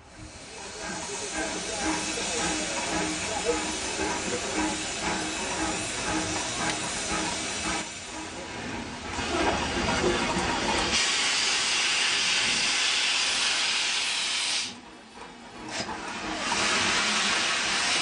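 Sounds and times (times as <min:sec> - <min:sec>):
steam hissing from locomotive: 0:00.0 - 0:08.4, 0:10.8 - 0:14.8, 0:15.7 - 0:18.0.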